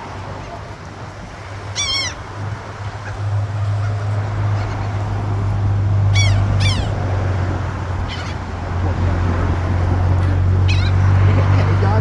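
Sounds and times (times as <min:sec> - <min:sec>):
seagulls calling: 0:00.0 - 0:12.0
steady low rumble: 0:00.0 - 0:12.0.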